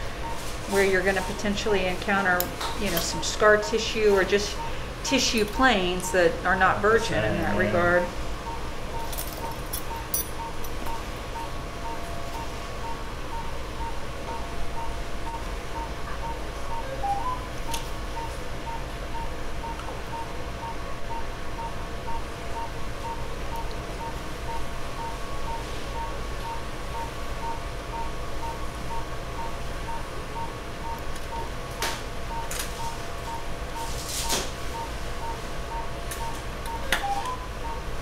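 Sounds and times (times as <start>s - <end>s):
faint equipment hum: 0.0s - 38.0s
patient monitor beeping: 0.0s - 38.0s.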